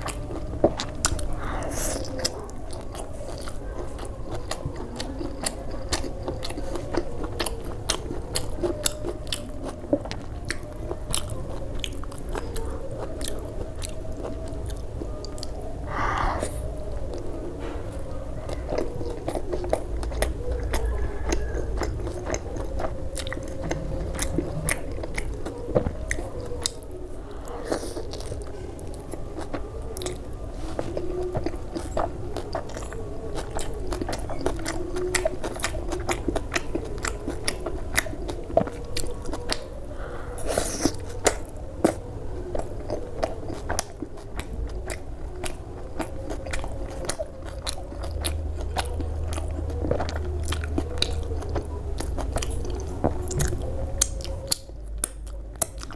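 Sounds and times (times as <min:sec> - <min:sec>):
person chewing and crunching food: 0:00.0 - 0:55.9.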